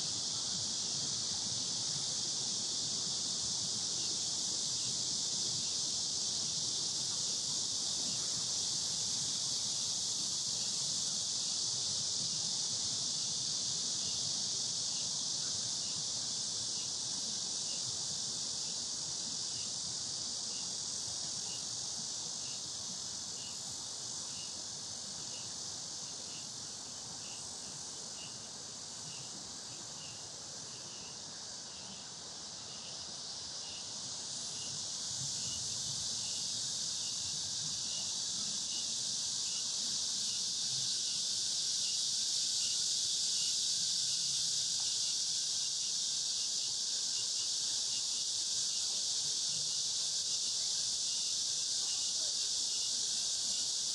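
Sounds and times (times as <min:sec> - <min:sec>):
cicadas buzzing: 0:00.0 - 0:53.9
soft pulsing insect call: 0:00.0 - 0:53.9.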